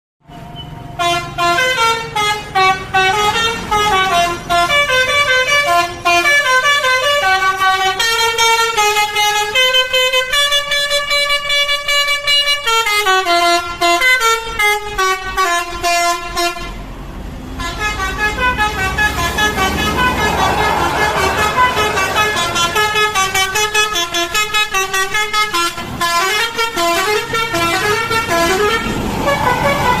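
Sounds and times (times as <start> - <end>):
bus engine rumble: 0.3 - 11.5, 12.9 - 30.0
bus musical horn melody: 0.3 - 30.0.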